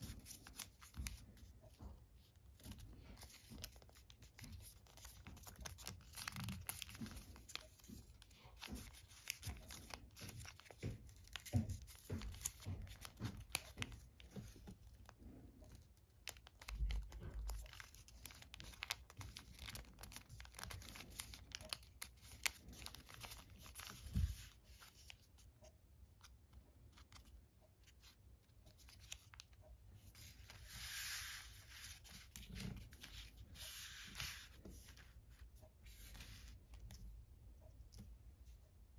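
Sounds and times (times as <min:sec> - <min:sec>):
paper crinkling and rustling: 0:00.0 - 0:25.5, 0:26.9 - 0:36.9.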